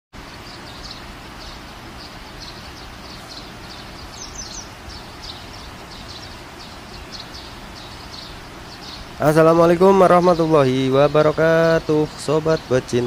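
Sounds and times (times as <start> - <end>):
background hiss: 0.2 - 13.0
small birds chirping: 0.2 - 13.0.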